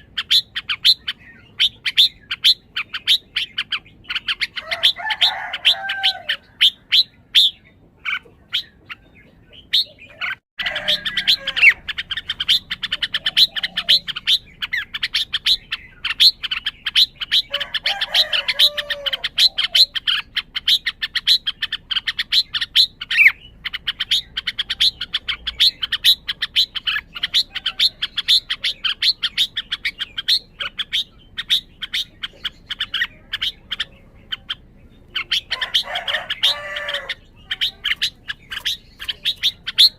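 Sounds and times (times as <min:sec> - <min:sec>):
bird chirping rapidly: 0:00.0 - 0:39.9
bird warbling: 0:00.0 - 0:39.9.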